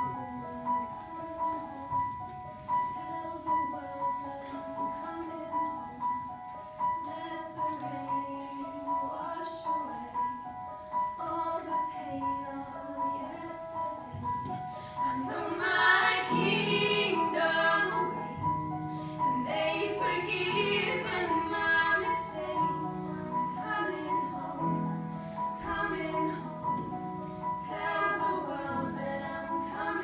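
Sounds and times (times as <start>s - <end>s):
woman singing: 2.8s - 6.2s, 6.9s - 30.0s.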